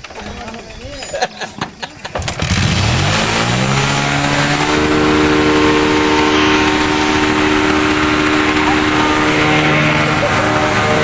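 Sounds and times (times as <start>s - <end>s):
motorcycle engine revving: 2.1s - 11.0s.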